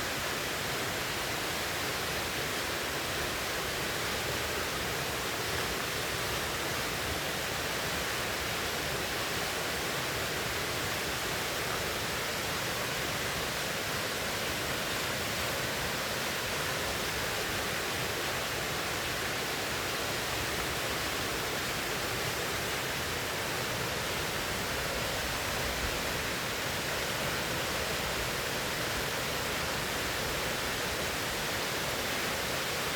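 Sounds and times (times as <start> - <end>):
river water rushing over rocks: 0.0 - 32.9.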